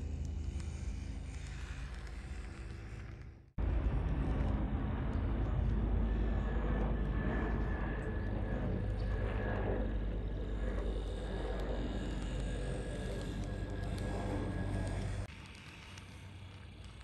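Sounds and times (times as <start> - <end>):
high motor whine: 0.0 - 17.0.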